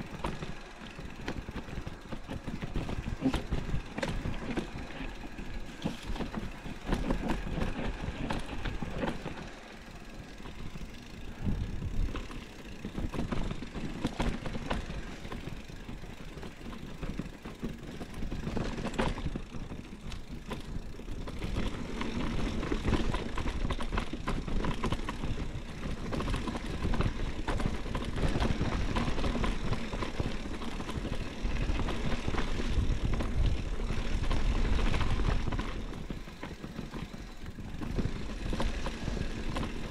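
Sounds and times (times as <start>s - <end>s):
bike rattling over bumps: 0.0s - 39.9s
bike tyres rolling over dirt: 0.0s - 39.9s.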